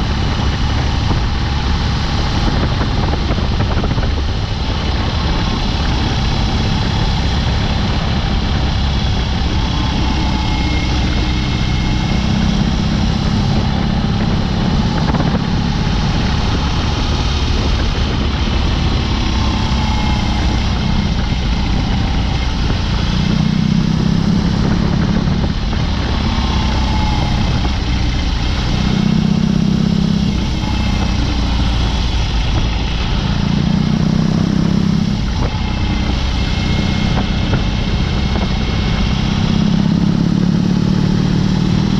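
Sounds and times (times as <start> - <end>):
motorcycle engine exhaust note: 0.0 - 41.9.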